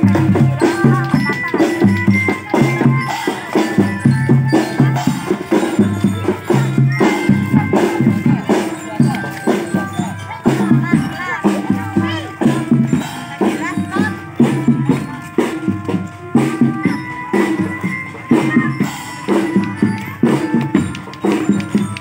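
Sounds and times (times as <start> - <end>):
bell lyre notes: 0.0 - 22.0
drums and light percussion: 0.0 - 22.0.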